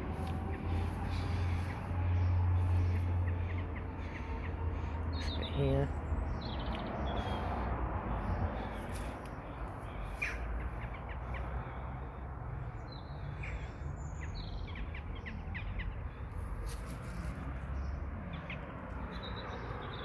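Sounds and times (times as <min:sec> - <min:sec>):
steady low rumble: 0:00.0 - 0:17.4
birds chirping: 0:00.0 - 0:20.0.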